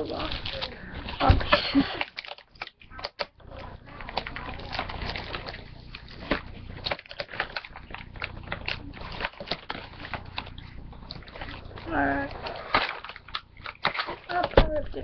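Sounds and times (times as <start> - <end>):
cardboard packaging crackling: 0.0 - 15.0.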